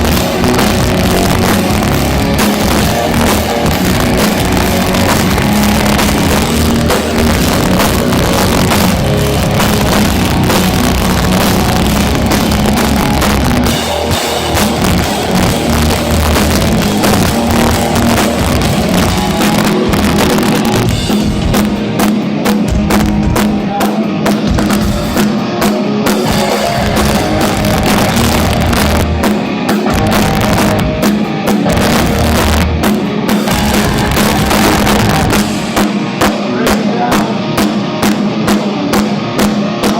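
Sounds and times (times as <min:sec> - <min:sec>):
heavy rock band playing: 0:00.0 - 0:39.9
pounding drum kit: 0:00.0 - 0:39.9.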